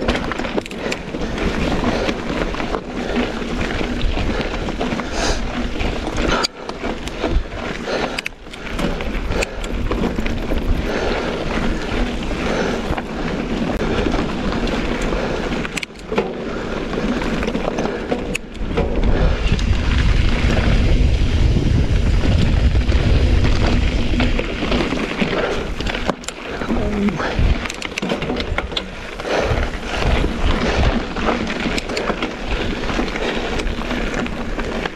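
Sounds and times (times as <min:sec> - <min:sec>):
bike rattling and clicking: 0:00.0 - 0:34.9
tyres crunching on gravel: 0:00.0 - 0:34.9
wind buffeting microphone: 0:00.0 - 0:34.9.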